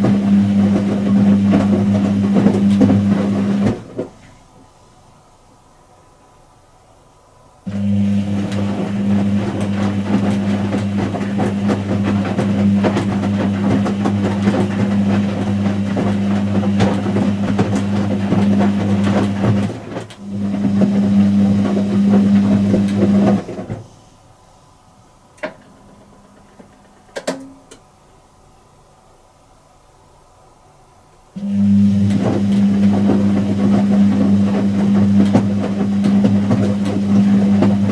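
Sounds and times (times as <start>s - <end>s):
washing machine running: 0.0s - 6.0s, 6.9s - 28.4s, 30.5s - 37.9s.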